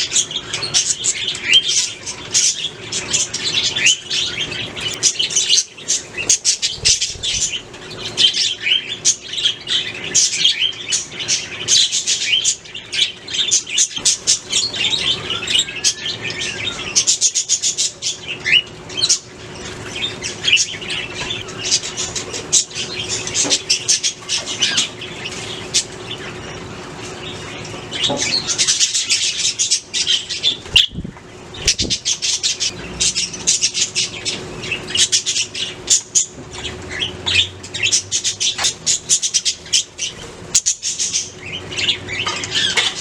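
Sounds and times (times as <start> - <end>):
budgies chirping: 0.0 - 43.0.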